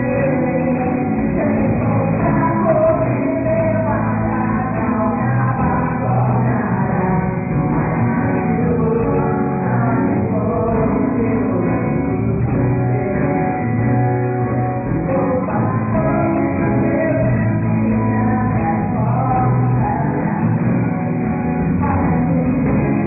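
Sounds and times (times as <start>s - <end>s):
live band playing rock music: 0.0s - 23.0s
person singing: 0.0s - 23.0s.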